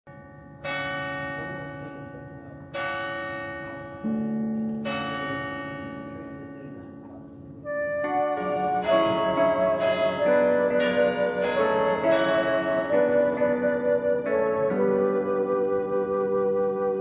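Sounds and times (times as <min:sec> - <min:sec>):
church bells ringing: 0:00.1 - 0:06.9, 0:08.0 - 0:16.5.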